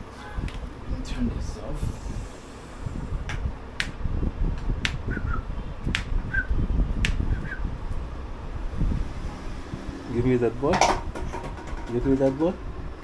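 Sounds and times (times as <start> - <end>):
low rumble: 0.4 - 13.0.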